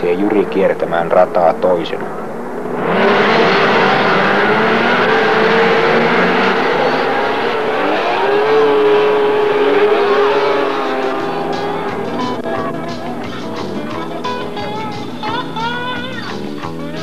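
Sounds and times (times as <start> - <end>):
snowmobile engines racing: 0.0 - 16.4.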